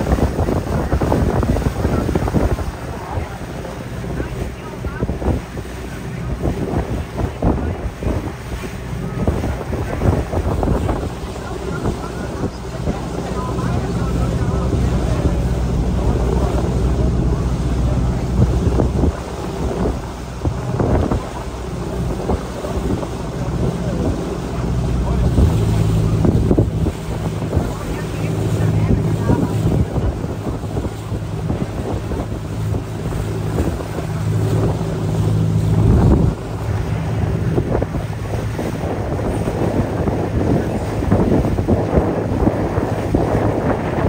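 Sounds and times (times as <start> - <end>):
motorboat engine humming: 0.0 - 44.0
sea water wash: 0.0 - 44.0
wind buffeting microphone: 0.0 - 44.0.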